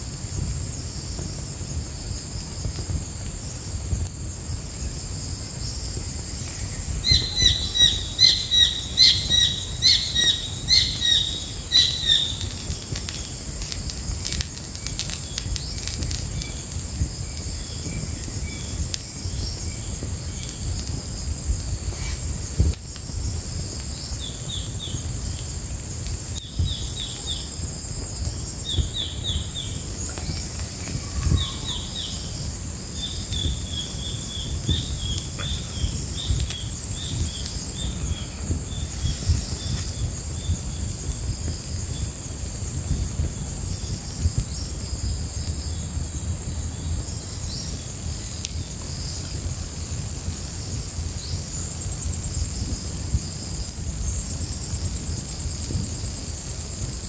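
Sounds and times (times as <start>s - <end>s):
insects droning: 0.0s - 57.0s
wood fire crackling and popping: 0.0s - 57.0s.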